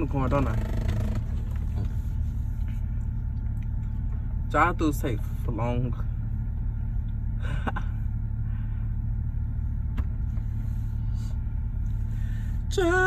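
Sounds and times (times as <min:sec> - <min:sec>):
car engine rumble from inside: 0:00.0 - 0:13.0.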